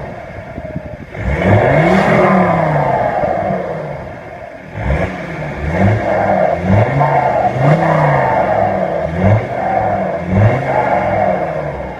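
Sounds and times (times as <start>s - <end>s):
diesel engine revving: 0.0s - 11.9s.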